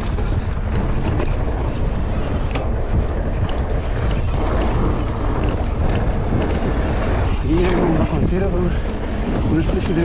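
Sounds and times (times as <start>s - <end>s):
bike rattles: 0.0s - 10.0s
wind buffeting microphone: 0.0s - 10.0s.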